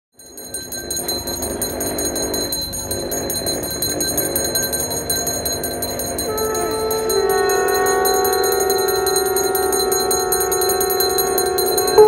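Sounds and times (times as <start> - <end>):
brass hand bells ringing: 0.2 - 12.0.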